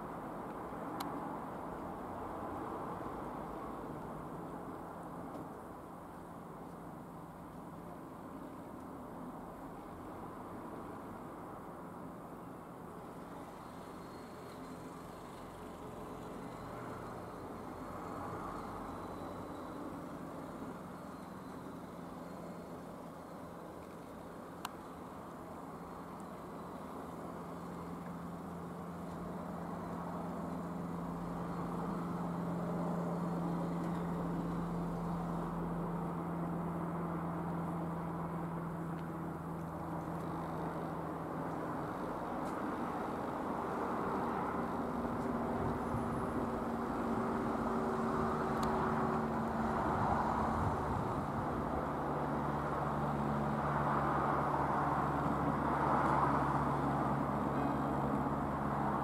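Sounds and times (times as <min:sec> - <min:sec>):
propeller plane droning overhead: 0:09.2 - 0:59.0.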